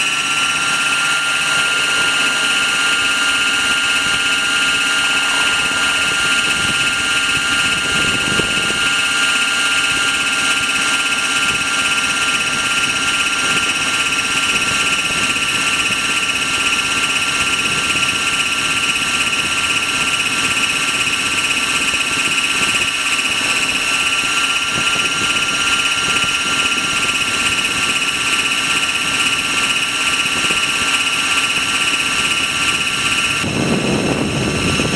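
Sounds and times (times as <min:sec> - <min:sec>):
constant rushing noise: 0:00.0 - 0:34.9
rc helicopter rotor whine: 0:00.0 - 0:34.9.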